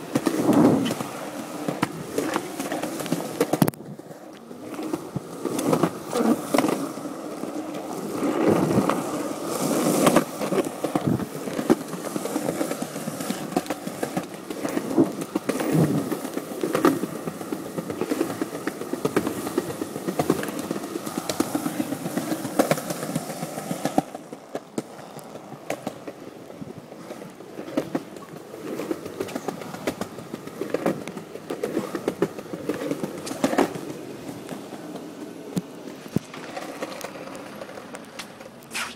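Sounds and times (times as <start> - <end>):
skateboard wheels clicking over cracks: 0.0 - 38.9
skateboard wheels rolling on pavement: 0.0 - 38.9.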